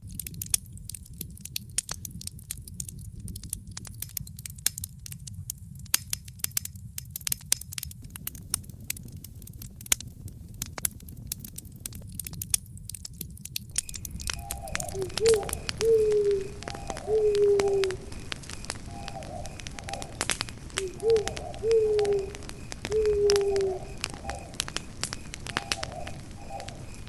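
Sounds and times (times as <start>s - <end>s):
campfire crackling and popping: 0.0s - 27.0s
low fire rumble: 0.0s - 27.0s.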